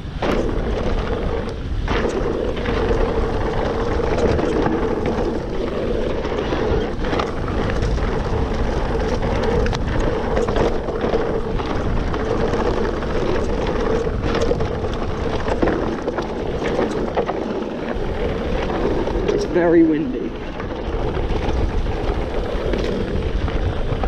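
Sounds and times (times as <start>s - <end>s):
bike knocks and rattles: 0.0s - 24.0s
bike tyres rolling on dirt: 0.0s - 24.0s
wind on microphone: 0.0s - 24.0s.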